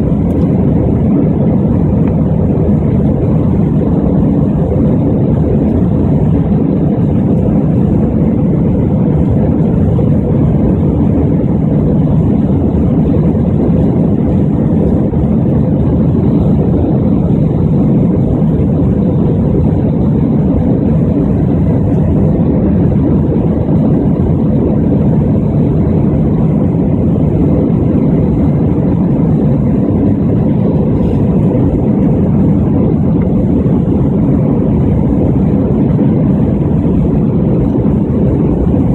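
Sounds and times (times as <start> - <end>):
airplane engine roar in cabin: 0.0 - 38.9.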